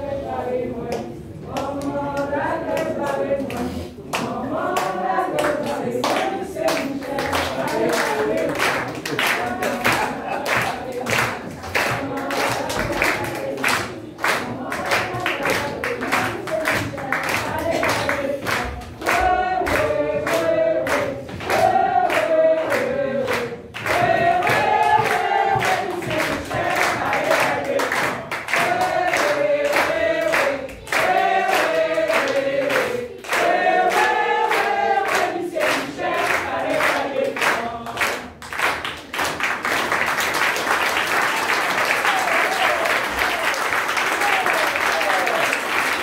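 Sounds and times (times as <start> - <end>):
group singing: 0.0 - 44.4
rhythmic hand-clapping: 0.0 - 46.0
applause: 3.5 - 46.0.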